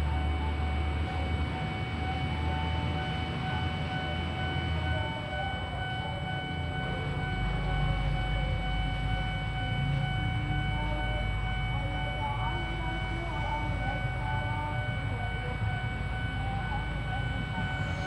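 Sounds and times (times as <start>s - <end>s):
high ringing tone: 0.0s - 18.0s.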